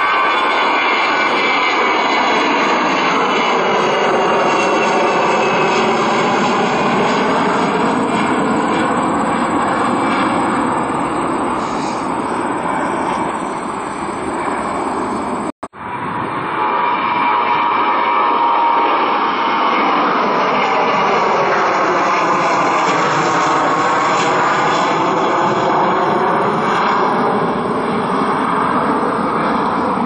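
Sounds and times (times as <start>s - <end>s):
departing jet engine noise: 0.0s - 30.0s
jet engines roaring: 0.0s - 30.0s.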